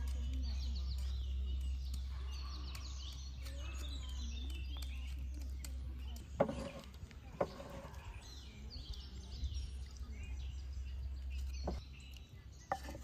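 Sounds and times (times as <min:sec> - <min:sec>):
small birds chirping and singing: 0:00.0 - 0:13.0.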